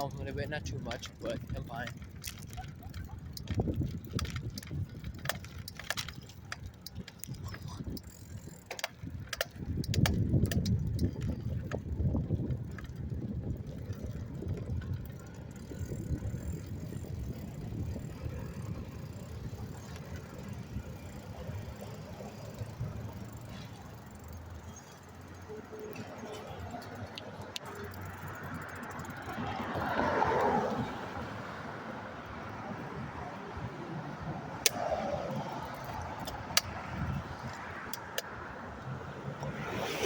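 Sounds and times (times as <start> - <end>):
bicycle clicks and rattles: 0.0 - 39.7
bicycle ride rumble: 0.0 - 40.0.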